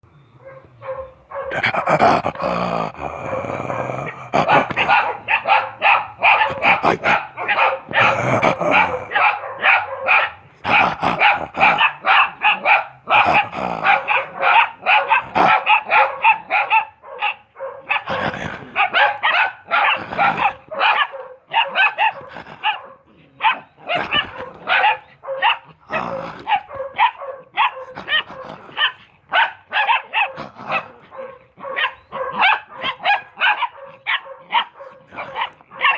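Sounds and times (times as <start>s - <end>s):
puppies barking: 0.3s - 35.9s.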